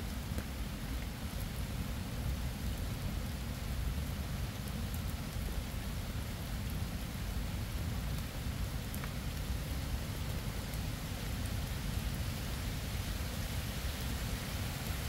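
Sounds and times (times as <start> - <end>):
faint raindrop ticks: 0.0 - 12.4
steady rain falling: 0.0 - 15.0.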